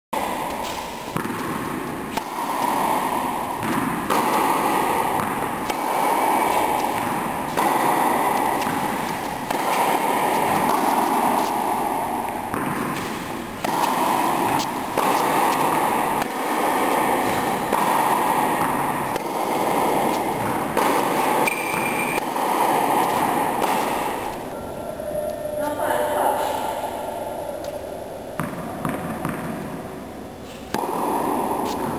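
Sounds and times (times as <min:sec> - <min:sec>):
racket hitting tennis ball: 0:00.2 - 0:24.6, 0:27.6 - 0:31.9
steady rushing noise: 0:00.2 - 0:31.9.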